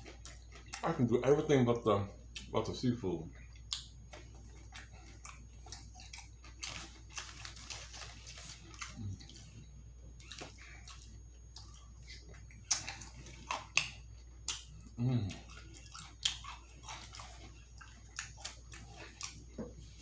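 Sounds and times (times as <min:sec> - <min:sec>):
wet chewing and lip-smacking: 0:00.0 - 0:01.0, 0:03.3 - 0:20.0.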